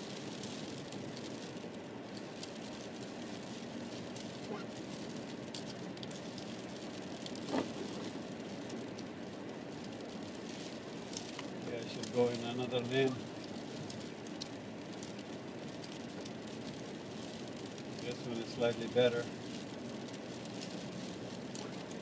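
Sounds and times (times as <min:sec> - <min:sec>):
car road and engine noise: 0:00.0 - 0:22.0
freezing rain ticking on car: 0:00.0 - 0:22.0.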